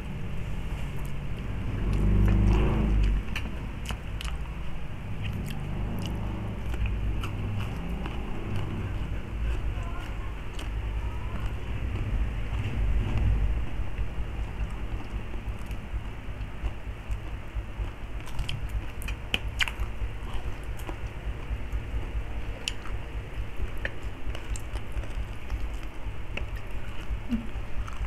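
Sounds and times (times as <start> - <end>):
steady low hum: 0.0 - 28.0
chewing crispy food: 0.8 - 28.0.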